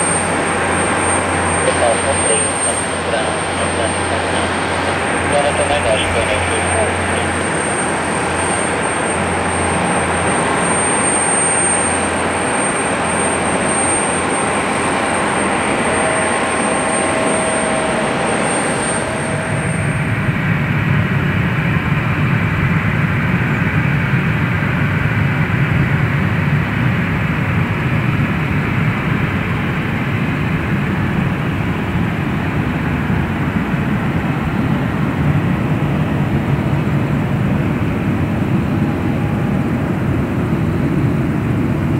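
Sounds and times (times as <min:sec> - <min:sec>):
jet engine with high whine: 0:00.0 - 0:41.9
low heavy jet noise: 0:00.0 - 0:41.9.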